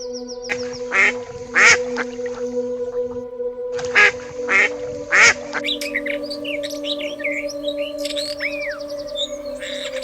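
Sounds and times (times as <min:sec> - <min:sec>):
birds chirping: 0:00.0 - 0:03.2, 0:03.9 - 0:10.0
background music drone: 0:00.0 - 0:10.0.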